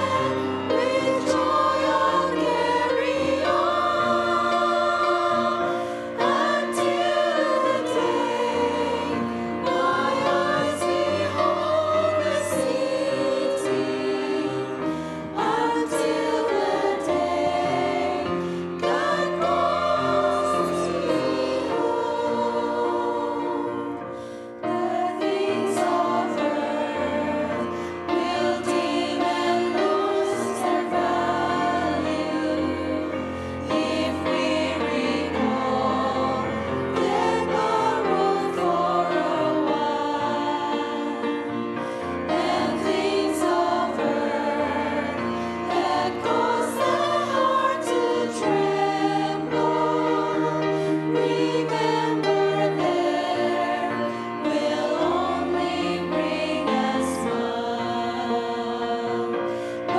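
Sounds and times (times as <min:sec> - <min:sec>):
piano accompaniment: 0:00.0 - 0:59.9
women singing a hymn: 0:00.0 - 0:59.9.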